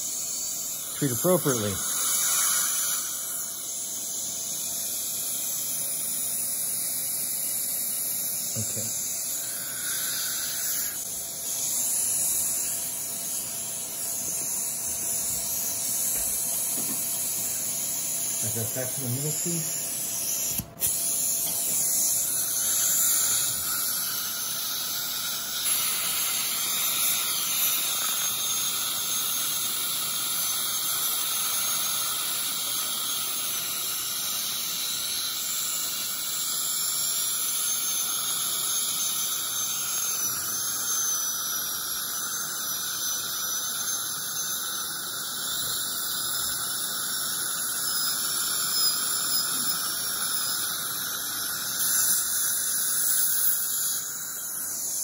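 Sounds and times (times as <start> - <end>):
dental drill whining: 0.0 - 55.0.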